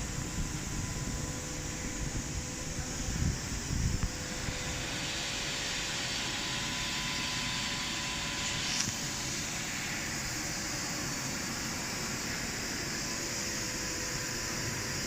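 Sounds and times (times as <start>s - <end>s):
engraving machine hissing: 2.9s - 15.0s.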